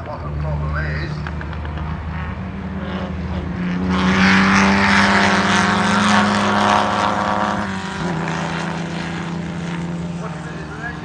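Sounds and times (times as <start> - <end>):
racing car engine running: 0.0 - 11.0.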